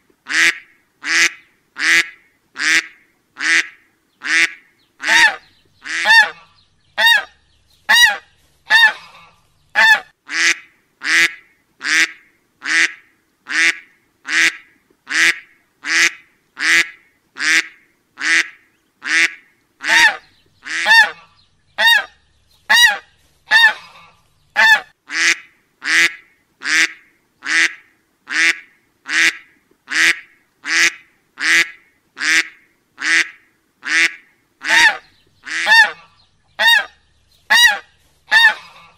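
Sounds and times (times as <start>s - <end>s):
duck quacking: 0.3s - 7.3s, 7.9s - 22.1s, 22.7s - 38.9s.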